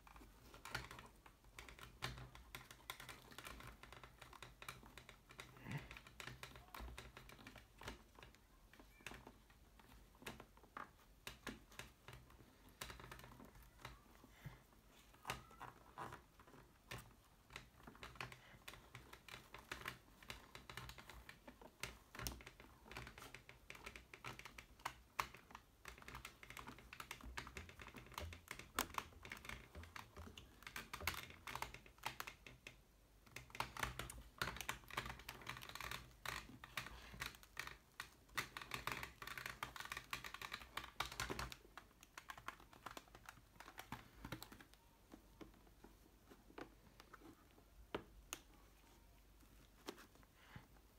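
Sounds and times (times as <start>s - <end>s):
fingers clicking and scratching on helmet: 0.0s - 50.9s.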